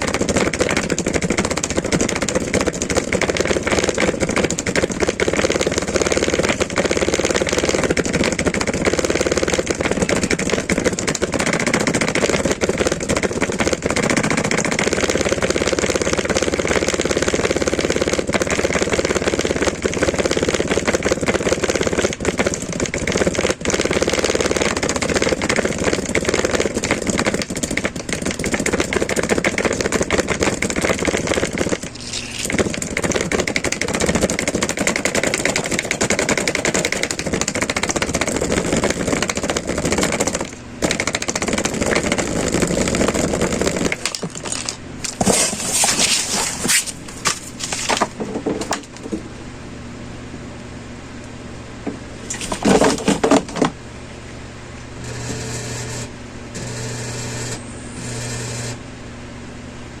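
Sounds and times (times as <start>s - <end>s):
speaker crackling buzz: 0.0s - 49.4s.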